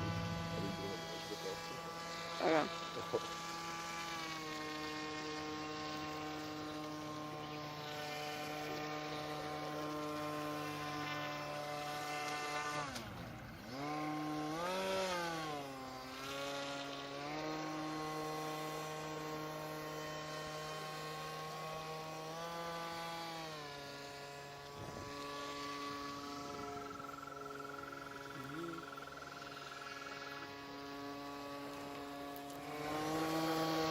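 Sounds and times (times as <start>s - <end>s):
electric motor and propeller whine: 0.0s - 33.9s.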